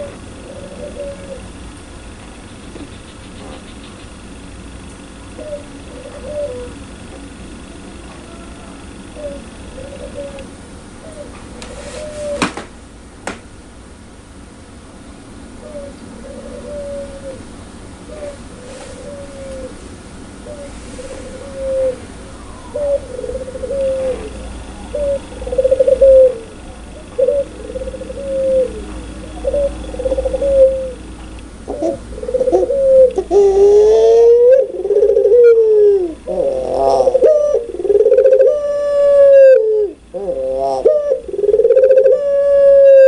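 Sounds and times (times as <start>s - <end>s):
dove cooing: 0.0s - 4.2s, 5.2s - 12.5s, 15.6s - 43.0s.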